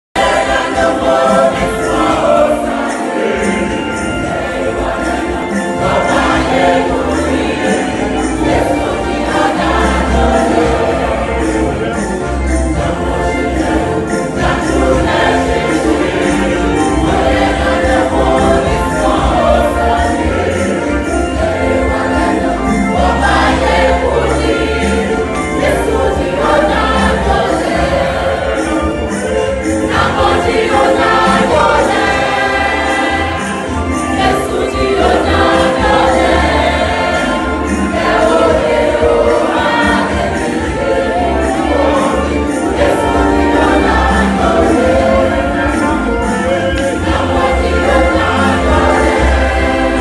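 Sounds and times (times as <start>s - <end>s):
choir singing: 0.2s - 50.0s
jingling percussion beat: 0.2s - 50.0s.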